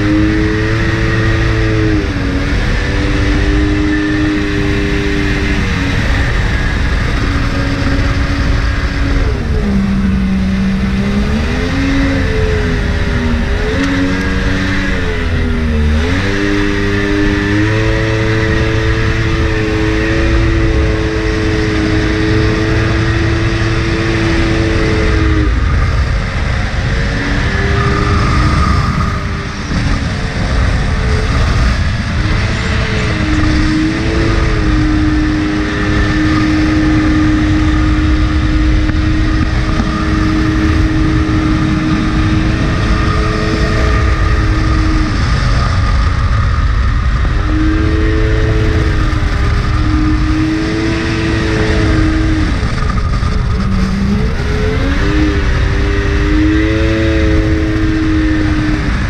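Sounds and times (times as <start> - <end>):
jet boat engine revving high: 0.0 - 59.0.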